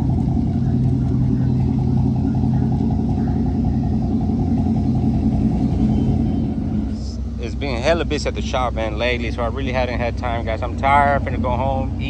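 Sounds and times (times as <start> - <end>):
truck engine through loud exhaust: 0.0 - 12.0.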